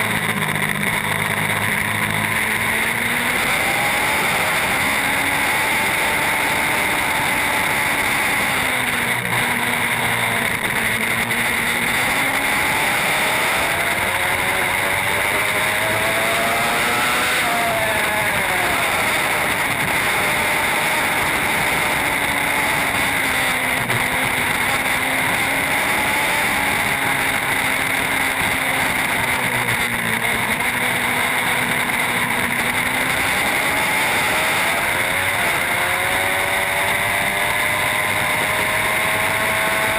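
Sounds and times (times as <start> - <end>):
steady rushing noise: 0.0 - 39.9
superbike engine revving: 0.0 - 39.9.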